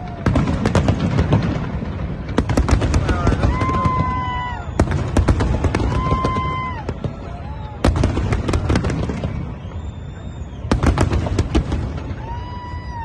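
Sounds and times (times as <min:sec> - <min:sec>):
crowd voices: 0:00.0 - 0:13.0
fireworks bangs and crackling: 0:00.0 - 0:13.0.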